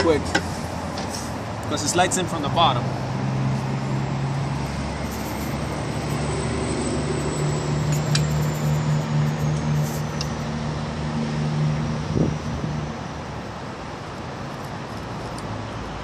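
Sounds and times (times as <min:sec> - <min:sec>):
low engine hum: 0:00.1 - 0:14.2.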